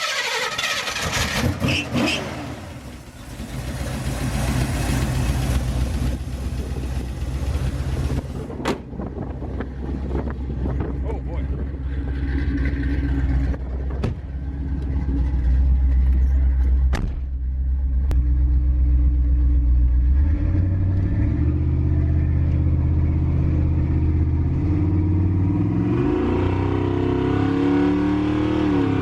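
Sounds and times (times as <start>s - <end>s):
pickup engine accelerating: 0.0s - 29.0s.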